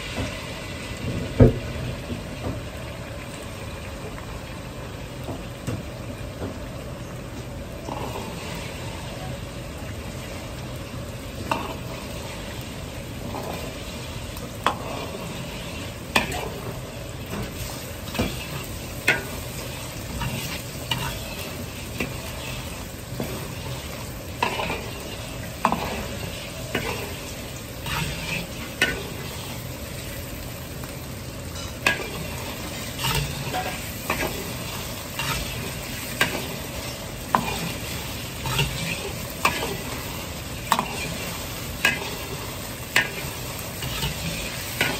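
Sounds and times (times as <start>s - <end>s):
egg sizzling in hot oil: 7.5s - 44.9s.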